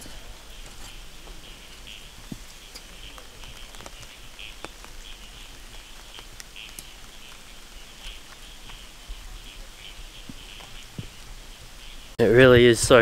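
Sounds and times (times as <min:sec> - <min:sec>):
raindrops ticking on an umbrella: 0:00.0 - 0:12.2
small animals calling: 0:00.0 - 0:12.2.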